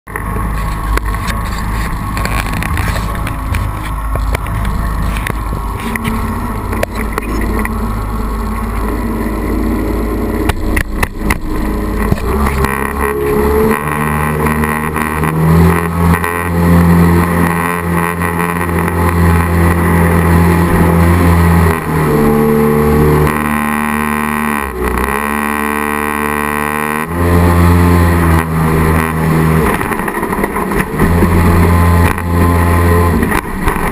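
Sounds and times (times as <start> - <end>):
boat engine drone: 0.1 - 33.9.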